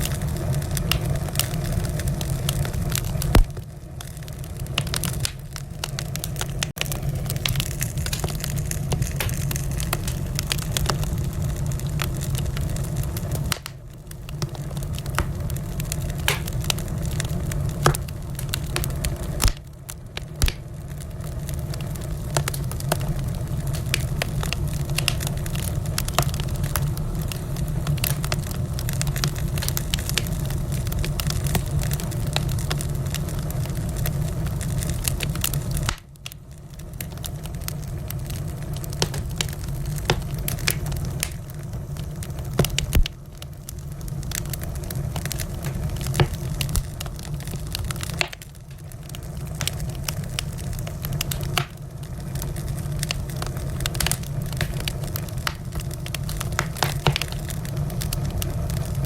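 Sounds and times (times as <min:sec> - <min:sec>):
low steady rumble: 0:00.0 - 0:59.0
wood fire crackling and popping: 0:00.0 - 0:59.0.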